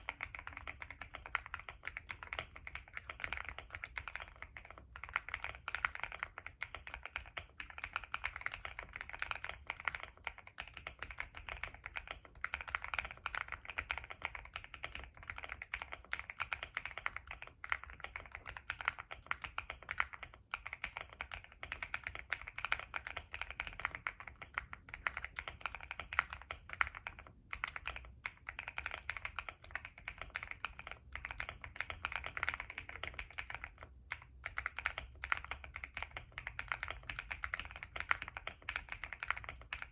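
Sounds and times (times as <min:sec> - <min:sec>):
muted mechanical keyboard clacks: 0:00.0 - 0:39.9.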